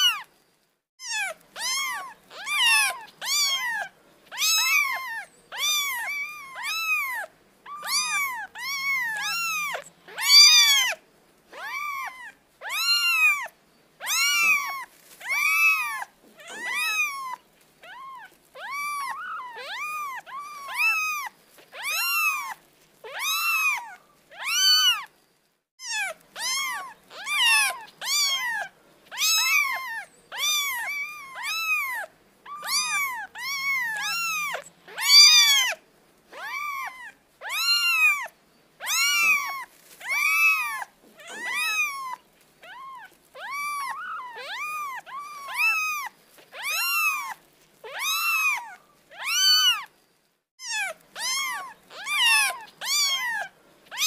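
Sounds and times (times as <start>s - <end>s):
cat meowing: 0.0s - 0.3s, 1.0s - 25.1s, 25.8s - 49.9s, 50.6s - 54.0s.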